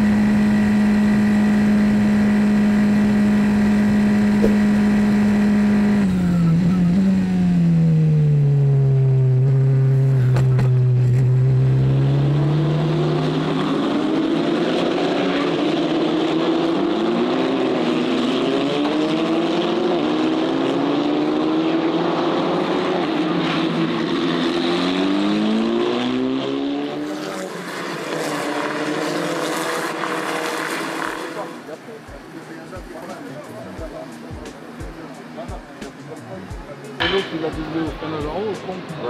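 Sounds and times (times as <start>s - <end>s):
race car engines shifting gears: 0.0s - 7.9s, 8.9s - 39.0s.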